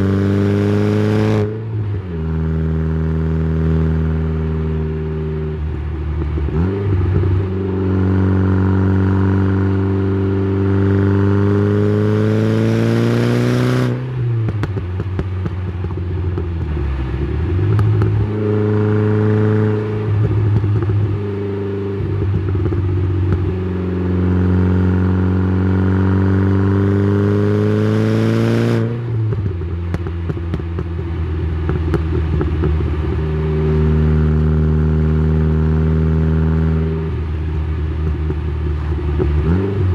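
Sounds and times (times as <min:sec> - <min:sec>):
car exhaust revving: 0:00.0 - 0:39.9.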